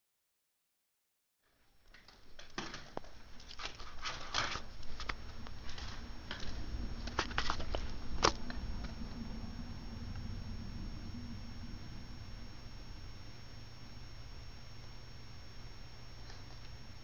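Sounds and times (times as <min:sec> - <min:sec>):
steady low hum: 0:01.4 - 0:17.0.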